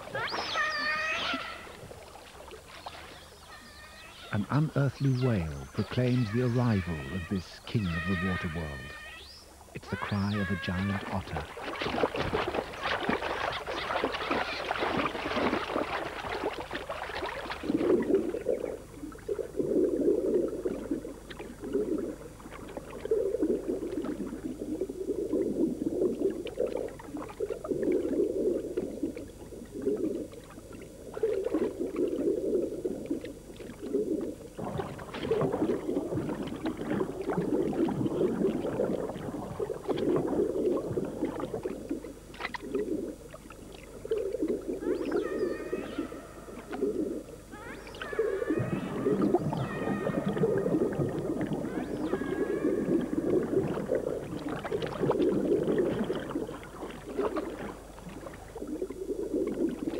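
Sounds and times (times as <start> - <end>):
underwater sloshing and swishing: 0.0 - 59.9
water splashing: 0.0 - 59.9.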